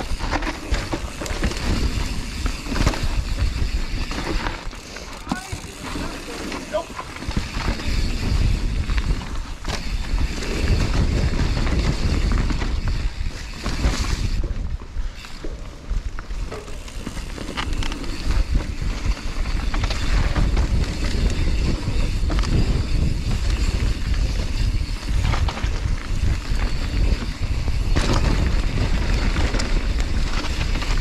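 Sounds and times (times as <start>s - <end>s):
bike knocking and rattling: 0.0s - 31.0s
wind rumbling on microphone: 0.0s - 31.0s.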